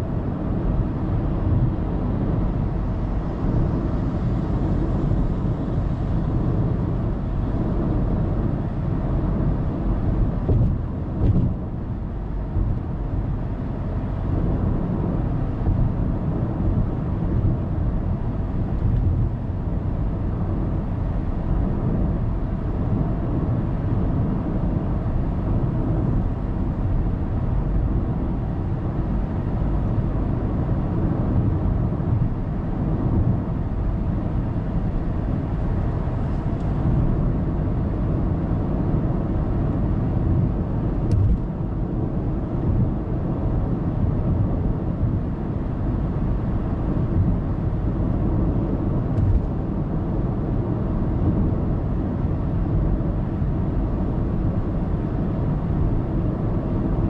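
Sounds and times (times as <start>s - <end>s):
car road noise on expressway: 0.0s - 57.0s.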